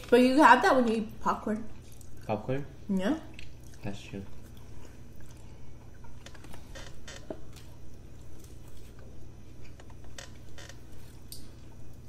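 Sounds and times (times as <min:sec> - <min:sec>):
people chewing: 0:01.6 - 0:02.6, 0:03.3 - 0:12.0.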